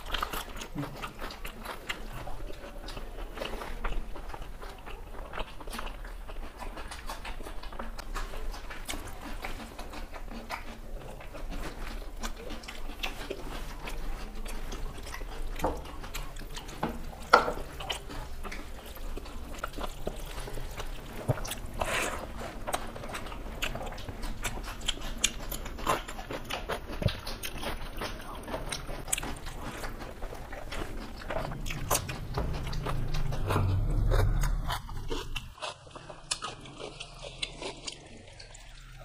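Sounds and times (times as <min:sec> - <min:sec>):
fingers mixing rice on plates: 0:00.0 - 0:32.9
chewing and mouth sounds: 0:00.0 - 0:39.0.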